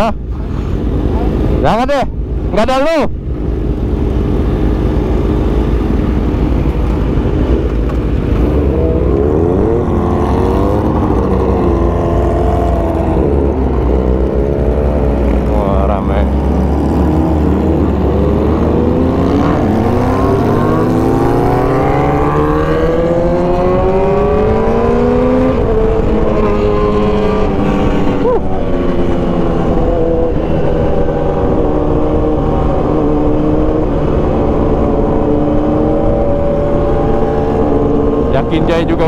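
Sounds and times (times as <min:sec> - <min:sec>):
wind rumble on microphone: 0:00.0 - 0:39.0
motorcycle engine accelerating: 0:03.5 - 0:39.0.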